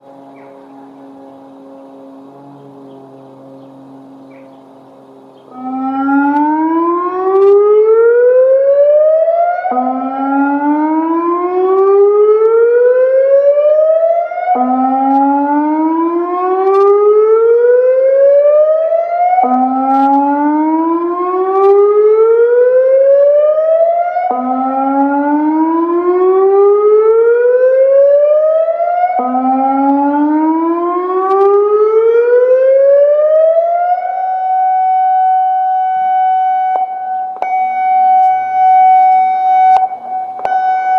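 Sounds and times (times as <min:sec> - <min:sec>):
electronic siren whooping: 0:00.0 - 0:40.9.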